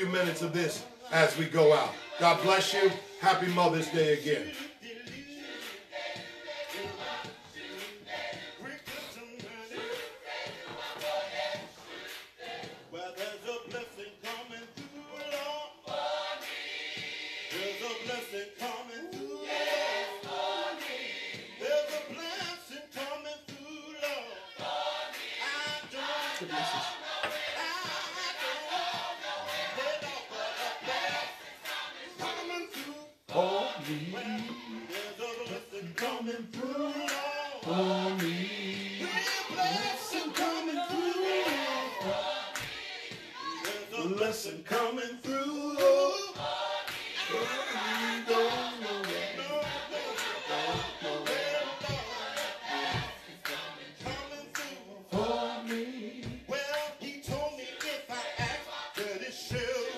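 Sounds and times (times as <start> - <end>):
gospel choir with band: 0.0 - 59.9.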